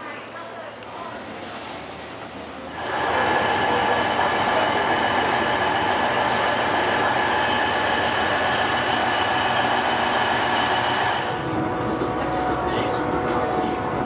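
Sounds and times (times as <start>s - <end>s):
train rolling on rails: 1.2s - 14.0s.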